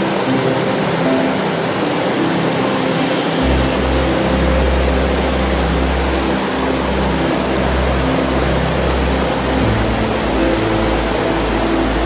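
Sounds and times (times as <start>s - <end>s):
waterfall and rapids rushing: 0.0s - 12.0s.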